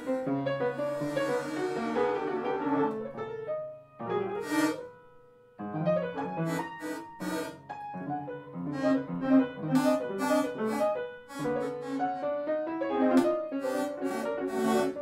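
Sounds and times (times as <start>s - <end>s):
free jazz piano: 0.0s - 15.0s.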